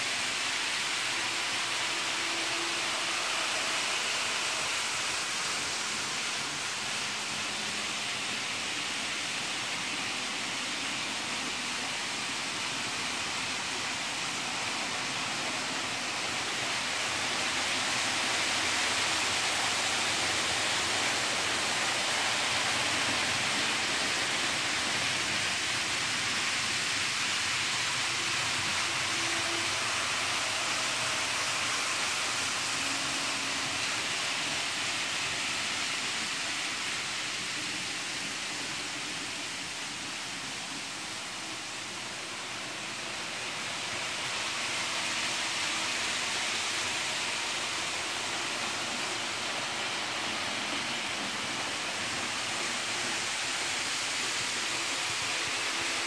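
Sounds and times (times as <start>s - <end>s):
model trains running on tracks: 0.0s - 56.0s.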